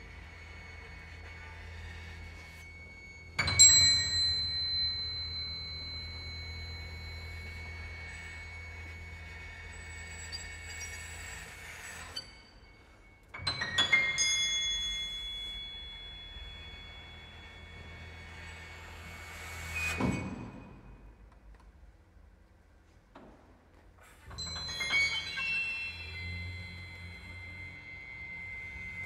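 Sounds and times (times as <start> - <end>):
bell-like metallic tones: 0.0 - 21.1, 24.3 - 29.0.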